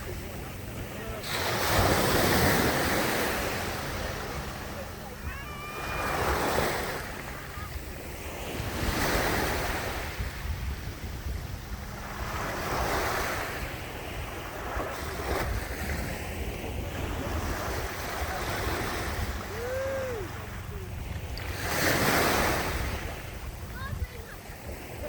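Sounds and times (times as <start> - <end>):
sea waves breaking: 0.0 - 25.0
wind rumbling on microphone: 0.0 - 25.0.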